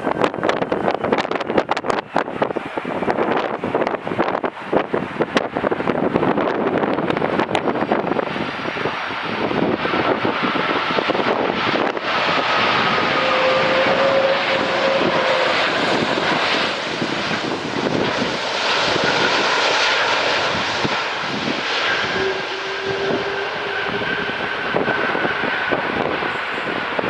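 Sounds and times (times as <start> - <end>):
jet engine rushing: 0.0 - 27.0
jet engine whine: 0.0 - 27.0.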